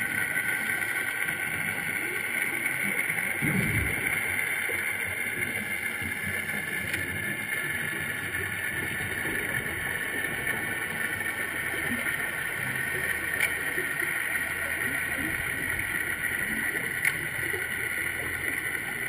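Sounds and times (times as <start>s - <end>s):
underwater hiss and rumble: 0.0s - 19.0s.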